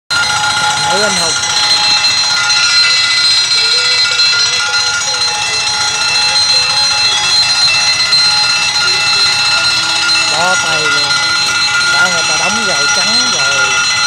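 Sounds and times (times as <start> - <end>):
level crossing alarm ringing: 0.1 - 14.0.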